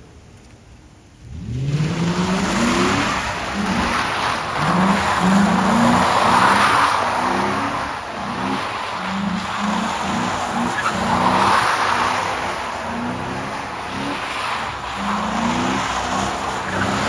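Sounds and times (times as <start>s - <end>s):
car engine revving hard: 1.2s - 17.0s
tyres spinning on wet pavement: 1.6s - 17.0s.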